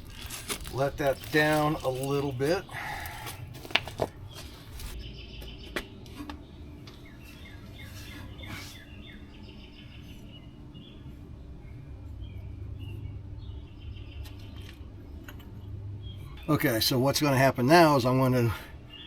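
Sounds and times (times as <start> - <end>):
low steady hum: 0.0 - 19.0
small birds chirping: 0.0 - 19.0.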